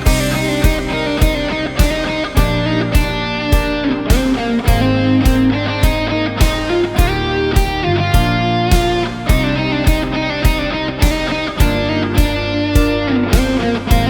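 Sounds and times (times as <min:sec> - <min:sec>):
instrumental guitar music with beat: 0:00.0 - 0:14.0.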